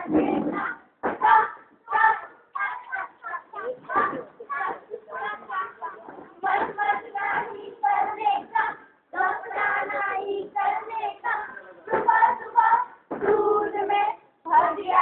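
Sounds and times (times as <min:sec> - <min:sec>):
children singing: 0:00.0 - 0:15.0.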